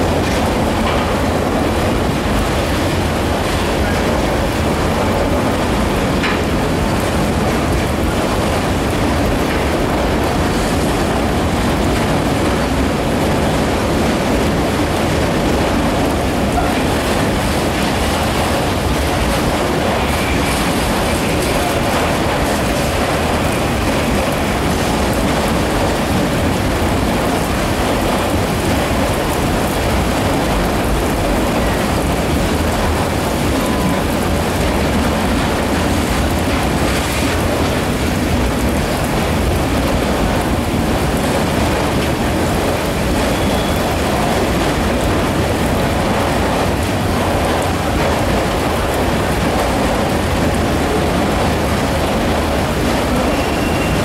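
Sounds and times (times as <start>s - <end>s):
rain falling on platform: 0.0s - 54.0s
train wheels rumbling on rails: 0.0s - 54.0s.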